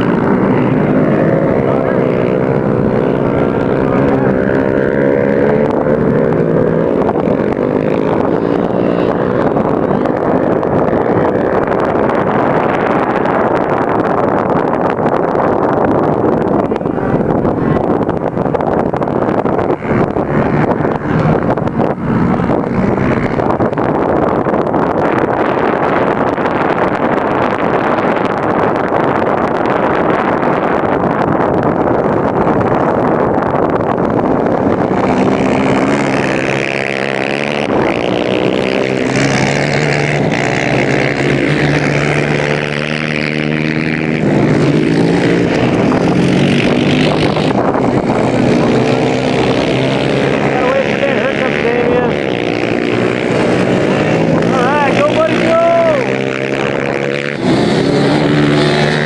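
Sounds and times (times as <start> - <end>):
quad engine running hard: 0.0 - 59.0
wind noise on microphone: 0.0 - 59.0.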